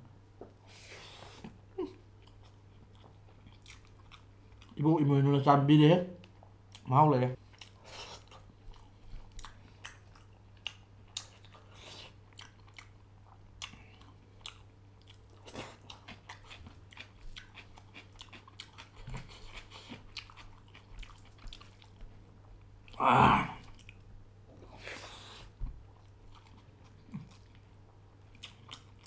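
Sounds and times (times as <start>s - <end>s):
faint low hum: 0.0s - 29.0s
person chewing food: 0.4s - 4.8s, 6.2s - 23.0s, 23.6s - 29.0s.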